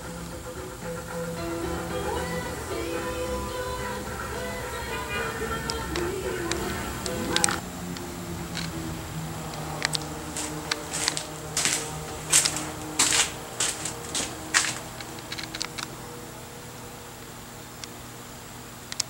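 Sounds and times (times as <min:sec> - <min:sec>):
quiet background music: 0:00.0 - 0:17.7.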